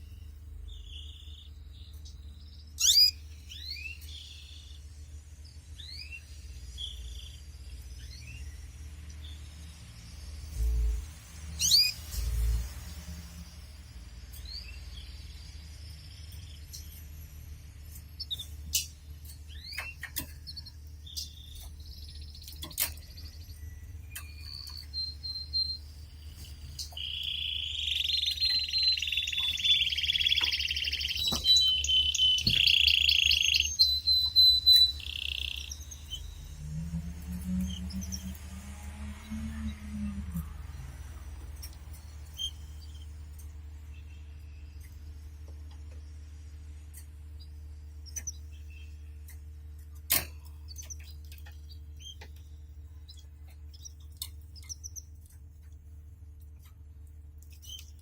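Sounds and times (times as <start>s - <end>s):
canary chirping: 0.0s - 13.0s, 14.2s - 55.8s, 56.6s - 58.0s
canary trilling song: 0.0s - 55.8s, 56.6s - 58.0s.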